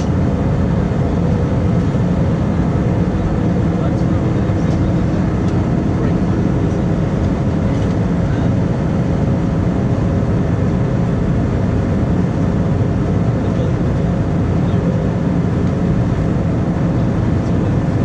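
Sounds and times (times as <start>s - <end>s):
faint engine hums: 0.0s - 18.0s
jet engine drone: 0.0s - 18.0s.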